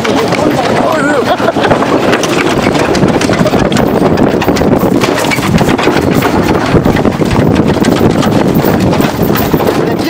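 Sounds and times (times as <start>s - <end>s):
carriage rattling: 0.0s - 10.0s
hooves clopping: 0.0s - 10.0s
wind buffeting microphone: 0.0s - 10.0s.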